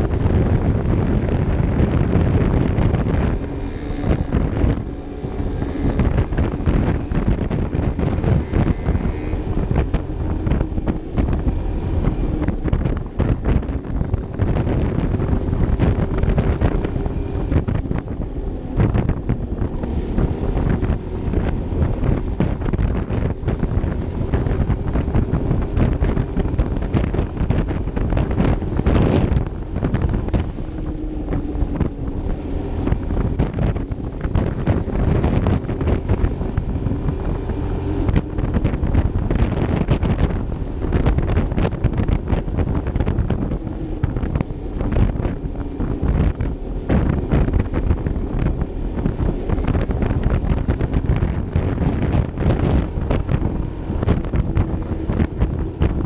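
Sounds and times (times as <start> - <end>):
scooter engine humming: 0.0 - 56.0
wind buffeting microphone: 0.0 - 56.0.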